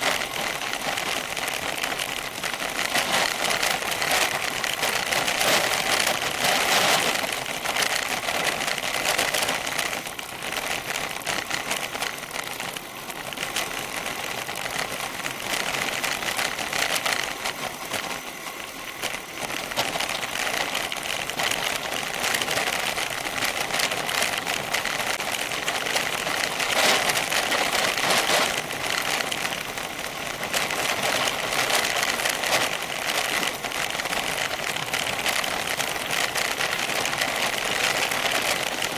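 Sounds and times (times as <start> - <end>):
bicycle tyres crunching on gravel: 0.0 - 38.9
camera shaking rattle: 0.0 - 38.9.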